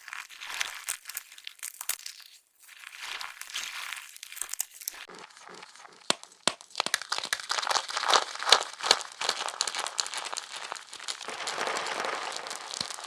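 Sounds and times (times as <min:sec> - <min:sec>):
chalk crunching and snapping: 0:00.0 - 0:13.0.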